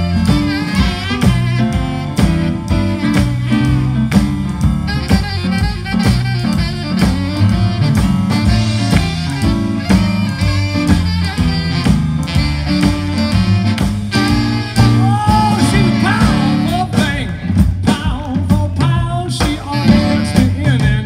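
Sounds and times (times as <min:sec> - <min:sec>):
saxophones: 0:00.0 - 0:04.1, 0:04.8 - 0:17.1, 0:19.7 - 0:20.9
drum kit: 0:00.0 - 0:21.0
rhythm section: 0:00.0 - 0:21.0.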